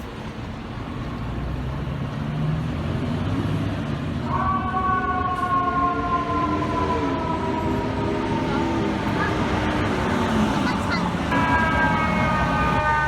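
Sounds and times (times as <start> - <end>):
fire truck engine running: 0.0 - 13.0.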